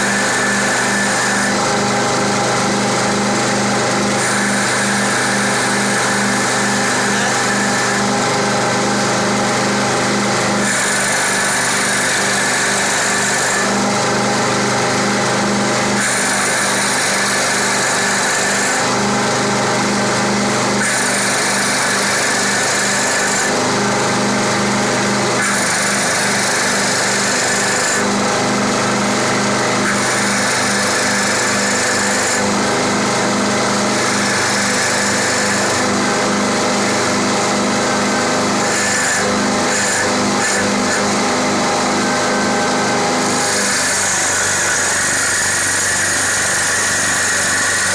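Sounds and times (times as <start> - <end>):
wood lathe motor hum: 0.0 - 47.9.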